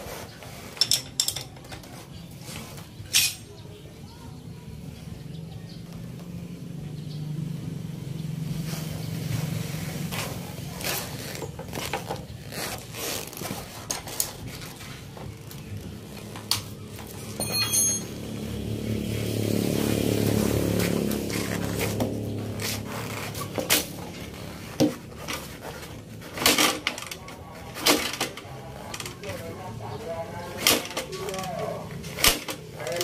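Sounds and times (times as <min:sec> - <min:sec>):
vehicle engine running: 0:04.4 - 0:12.7, 0:14.5 - 0:33.0.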